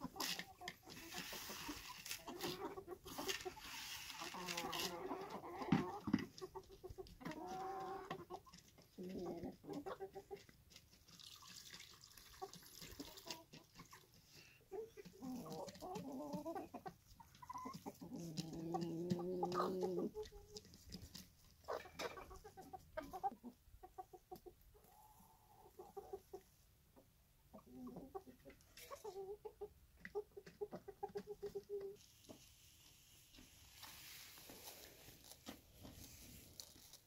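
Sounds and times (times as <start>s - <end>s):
chickens clucking: 0.0s - 11.2s, 12.3s - 36.8s.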